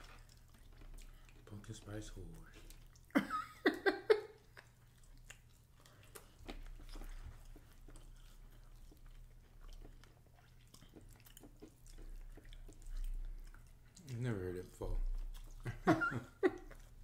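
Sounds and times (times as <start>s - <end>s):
faint chewing and biting: 0.0s - 3.2s, 4.2s - 17.0s.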